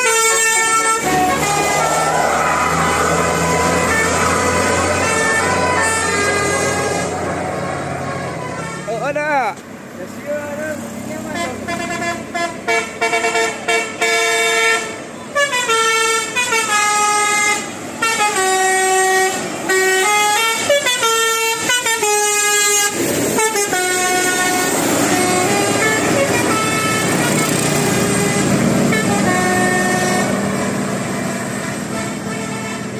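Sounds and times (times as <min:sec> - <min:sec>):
multi-tone air horn melody: 0:00.0 - 0:07.2, 0:11.4 - 0:30.4, 0:31.2 - 0:32.9.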